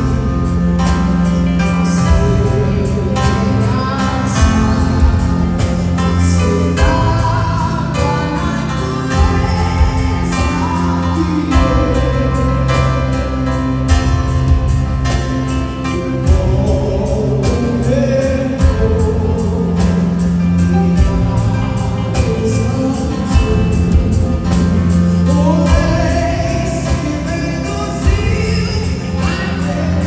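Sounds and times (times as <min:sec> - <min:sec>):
band playing steady beat: 0:00.0 - 0:30.0
person singing: 0:00.0 - 0:30.0.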